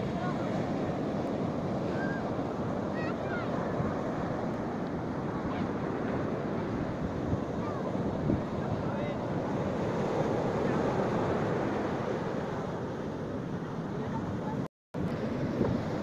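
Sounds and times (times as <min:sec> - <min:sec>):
surf breaking on beach: 0:00.0 - 0:16.0
wind on microphone: 0:00.0 - 0:16.0.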